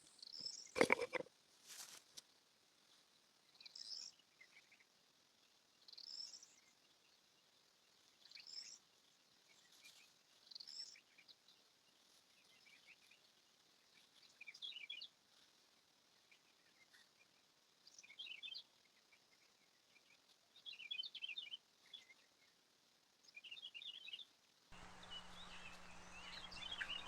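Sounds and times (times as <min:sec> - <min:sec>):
faint bird chirping: 0:02.9 - 0:27.0.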